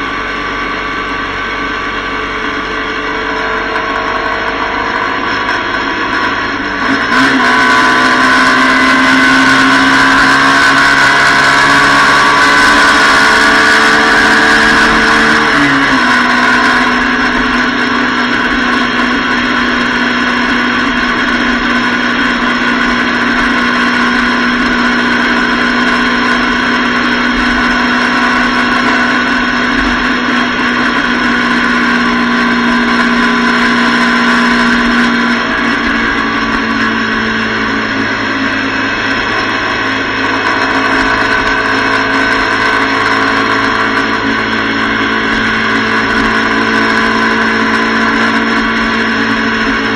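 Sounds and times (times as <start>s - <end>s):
motorcycle engine cruising: 0.0s - 49.9s
wind and road rush: 0.0s - 49.9s.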